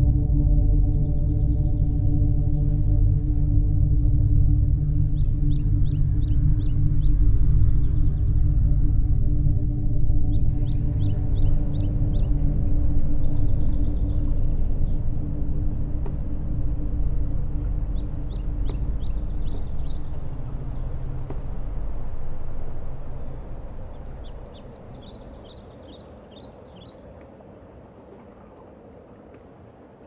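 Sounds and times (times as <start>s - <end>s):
low drone: 0.0s - 26.2s
small birds twittering: 4.7s - 30.0s.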